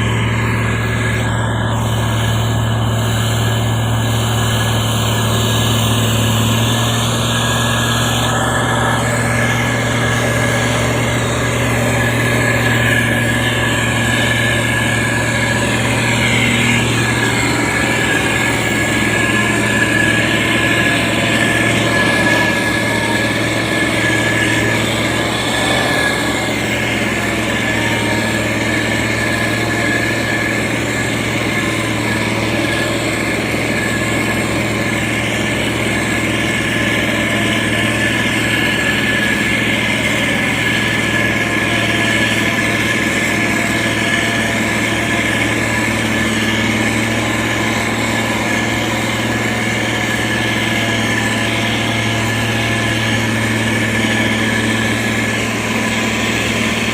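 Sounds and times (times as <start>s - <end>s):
construction machine engine running: 0.0s - 56.9s.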